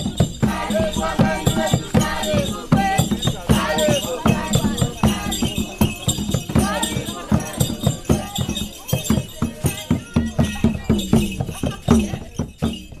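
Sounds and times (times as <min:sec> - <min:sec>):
background music with percussion: 0:00.0 - 0:13.0.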